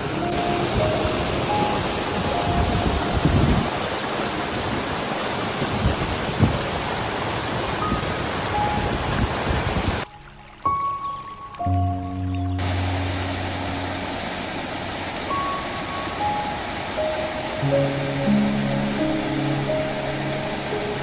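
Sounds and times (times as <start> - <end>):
rushing water roar: 0.0 - 21.0.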